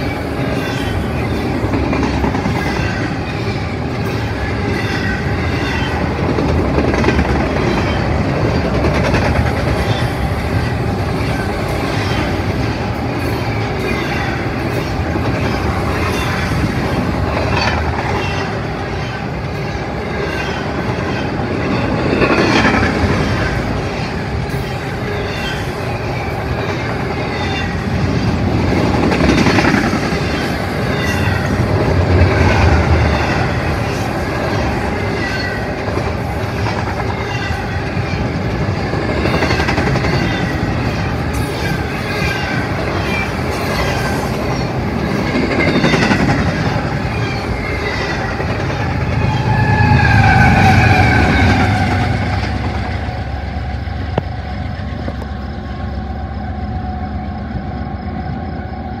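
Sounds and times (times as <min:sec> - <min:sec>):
train wheels clattering: 0:00.0 - 0:53.4.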